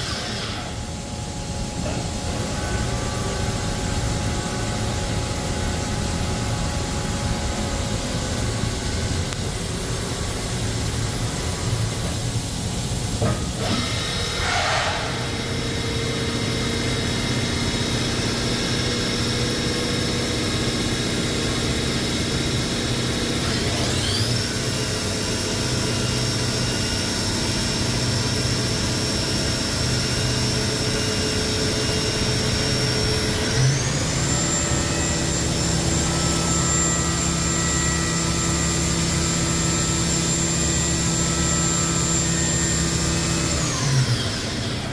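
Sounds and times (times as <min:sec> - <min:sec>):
high machine whine: 0:00.0 - 0:44.9.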